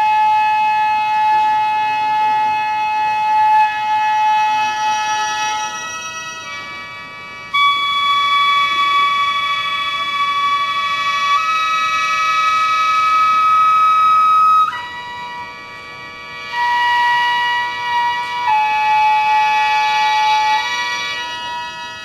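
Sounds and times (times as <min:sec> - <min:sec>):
wind instruments holding long notes: 0:00.0 - 0:22.0.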